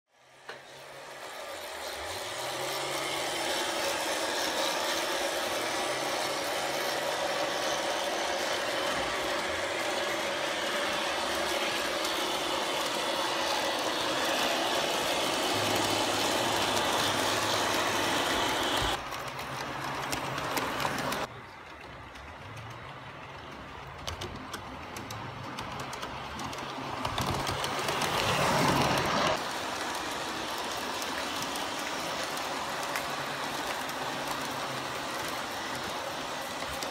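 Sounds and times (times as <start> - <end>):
model locomotive motor whirring: 0.2 - 36.9
wheels running on rails: 0.2 - 36.9.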